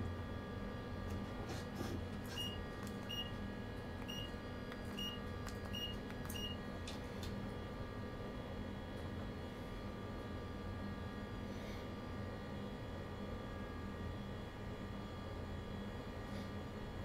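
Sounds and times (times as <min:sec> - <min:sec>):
low hum in train cab: 0:00.0 - 0:17.0.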